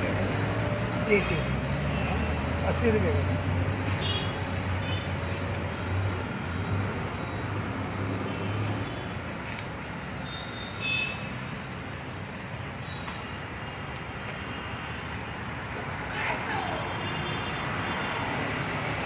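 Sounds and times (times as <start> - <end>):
road traffic going by: 0.0 - 19.0.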